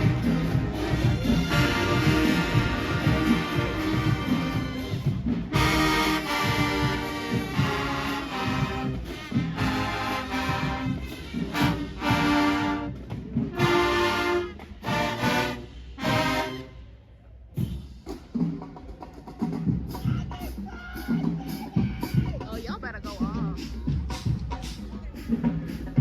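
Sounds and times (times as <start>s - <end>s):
marching band brass and drums: 0.0s - 26.0s.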